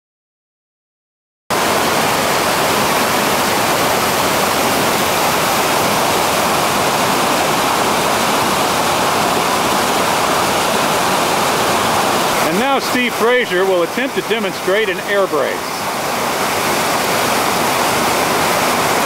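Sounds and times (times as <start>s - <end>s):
whitewater rapids rushing: 1.5s - 19.0s.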